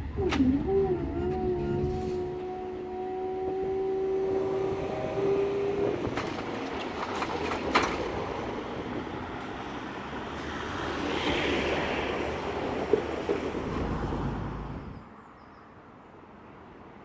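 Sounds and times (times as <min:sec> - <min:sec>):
diesel train engine drone: 0:00.0 - 0:15.0
passing traffic: 0:00.0 - 0:17.0.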